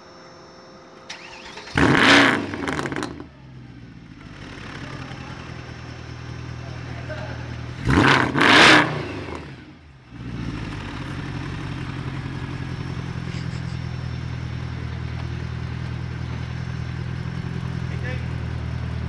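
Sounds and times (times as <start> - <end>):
car engine revving and idling: 1.1 - 19.0.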